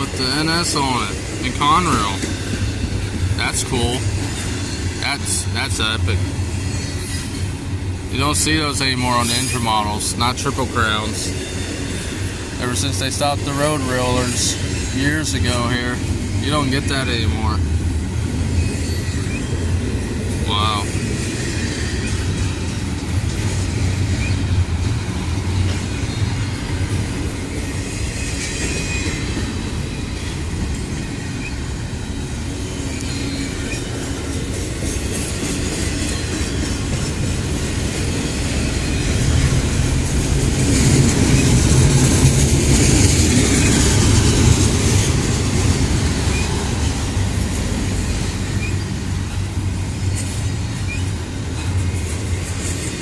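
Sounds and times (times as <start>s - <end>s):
freight train wheels rumbling on track: 0.0s - 53.0s.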